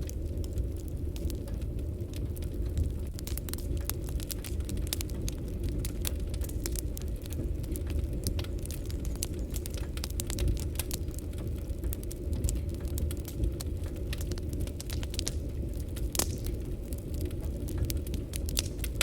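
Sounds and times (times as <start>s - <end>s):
flames rushing: 0.0s - 19.0s
wood fire crackling: 0.0s - 19.0s.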